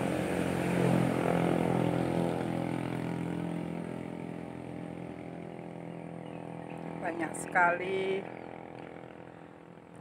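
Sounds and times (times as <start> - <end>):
engine droning hum: 0.0 - 10.0.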